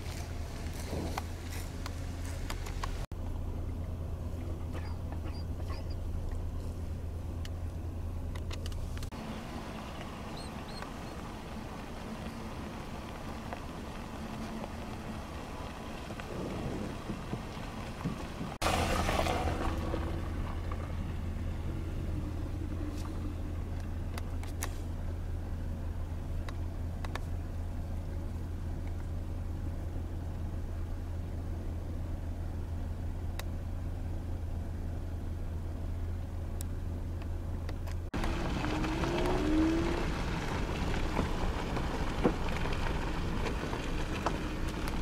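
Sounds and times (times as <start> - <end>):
car driving rumble: 0.0 - 45.0.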